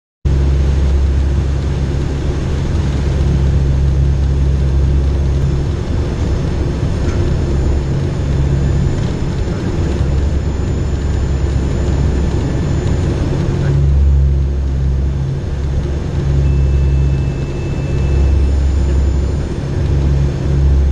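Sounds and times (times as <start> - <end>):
propeller and engine hum: 0.3 - 20.9.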